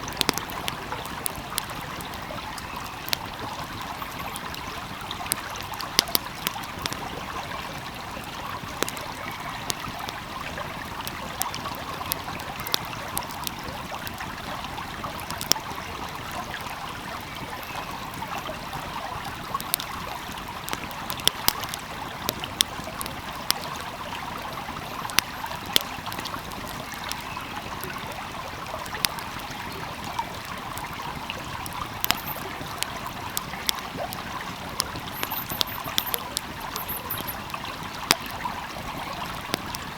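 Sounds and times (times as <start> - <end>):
fire crackling: 0.0 - 39.9
stream flowing: 0.0 - 39.9.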